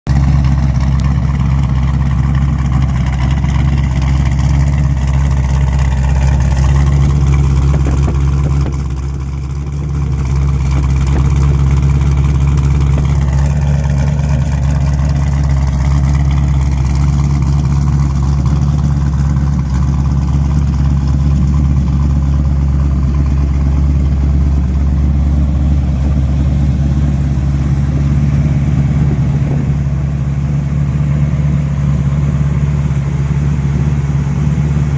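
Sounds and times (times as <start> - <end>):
truck engine running: 0.1 - 34.9.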